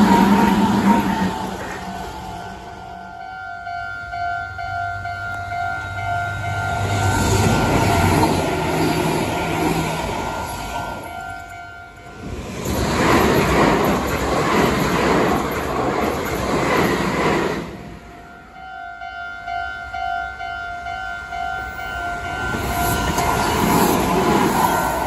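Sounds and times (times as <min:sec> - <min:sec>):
electric trains passing: 0:00.0 - 0:25.0.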